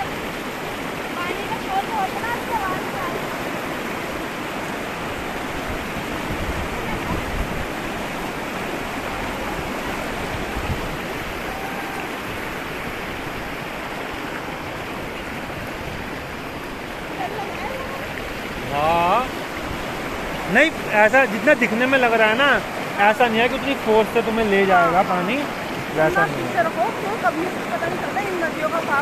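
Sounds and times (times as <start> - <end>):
river rushing over boulders: 0.0 - 29.0.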